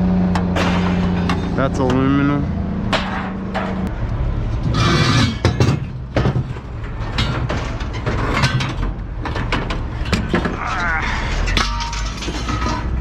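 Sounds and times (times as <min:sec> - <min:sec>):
scrap metal clanking: 0:00.4 - 0:02.1, 0:02.9 - 0:03.9, 0:04.5 - 0:13.0.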